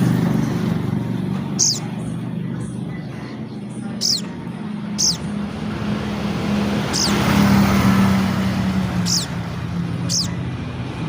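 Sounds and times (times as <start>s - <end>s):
low engine hum: 0.0s - 11.0s
vehicle passing: 0.0s - 11.0s.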